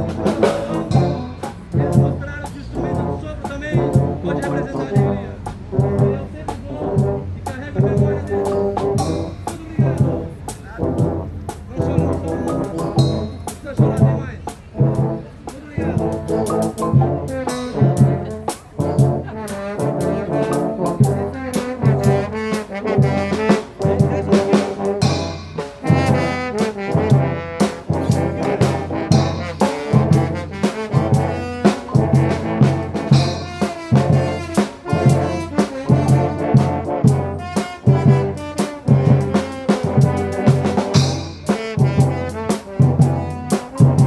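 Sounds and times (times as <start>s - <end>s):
brass band playing: 0.0s - 44.0s
drums keeping a steady beat: 0.0s - 44.0s
trombones and trumpets: 0.0s - 44.0s.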